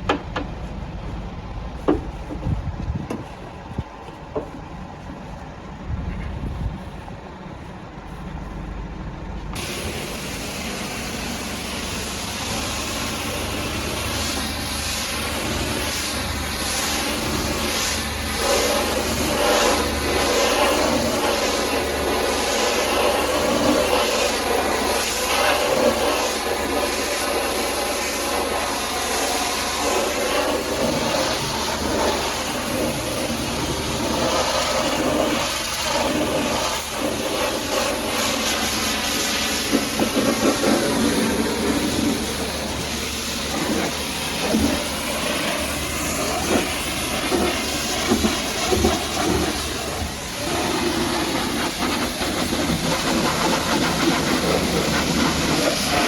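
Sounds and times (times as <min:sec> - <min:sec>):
pressure washer jet hissing: 0:09.5 - 0:56.0.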